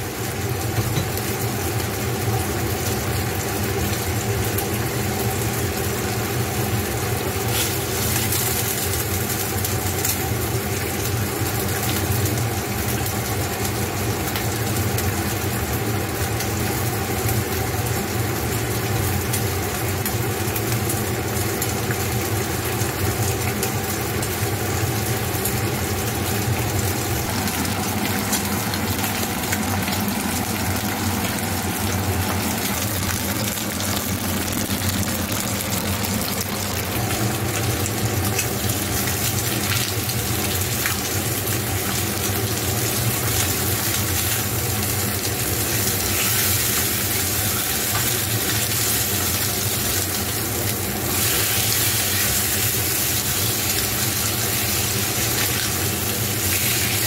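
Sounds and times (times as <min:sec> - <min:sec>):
meat sizzling in a frying pan: 0:00.0 - 0:57.0.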